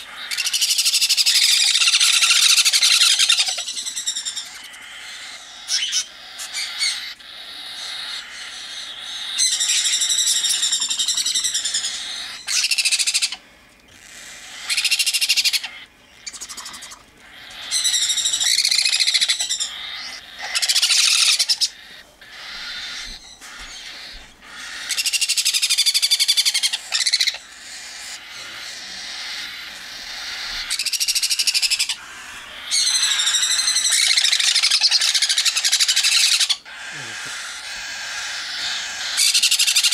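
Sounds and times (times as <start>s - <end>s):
baby parrots begging calls: 0.0s - 39.9s.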